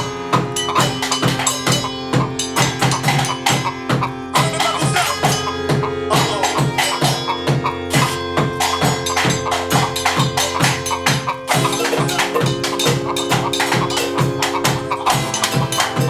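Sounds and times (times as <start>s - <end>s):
sustained droning tones: 0.0s - 16.0s.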